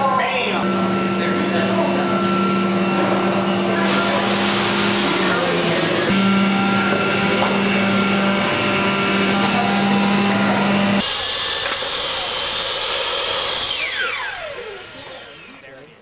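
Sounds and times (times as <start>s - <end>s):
power tool motor hum: 0.0s - 16.0s
saw cutting a board: 0.0s - 16.0s
saw motor winding down: 0.0s - 16.0s.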